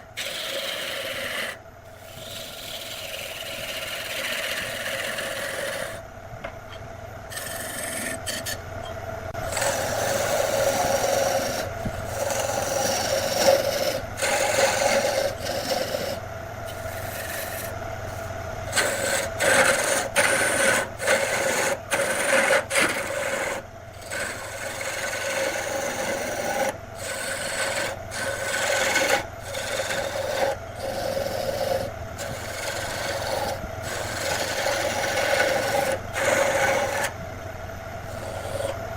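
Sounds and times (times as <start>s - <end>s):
tool scraping spinning wood: 0.0s - 6.0s, 7.3s - 8.7s, 9.3s - 38.9s
low motor hum: 0.0s - 38.9s.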